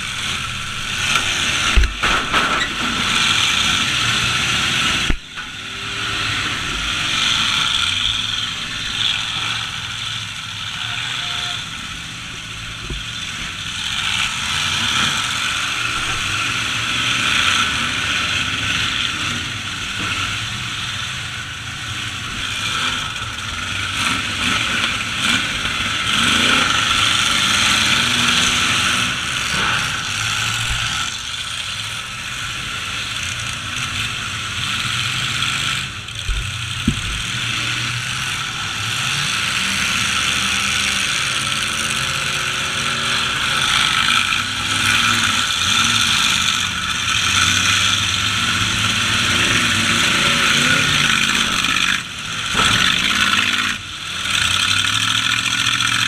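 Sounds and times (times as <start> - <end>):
truck engines revving: 0.0 - 56.0.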